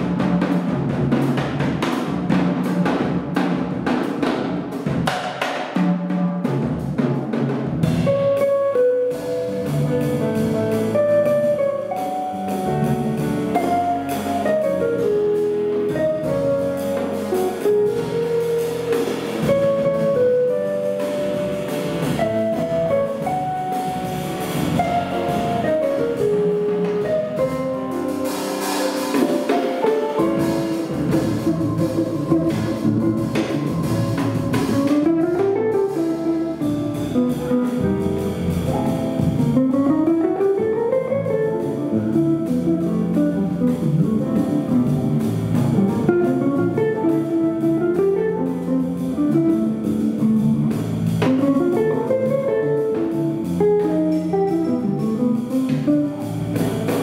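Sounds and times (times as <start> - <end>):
drum kit playing: 0.0 - 57.0.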